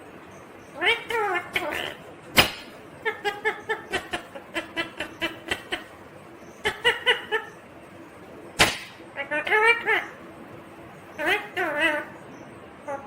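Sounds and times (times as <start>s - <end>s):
parakeet chattering: 0.4s - 7.7s, 8.6s - 10.3s, 11.0s - 13.0s.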